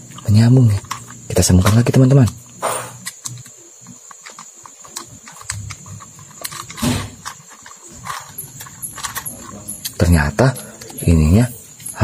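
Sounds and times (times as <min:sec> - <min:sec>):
plastic toy parts clicking: 0:00.0 - 0:02.4, 0:03.0 - 0:12.0
crickets droning: 0:00.0 - 0:12.0.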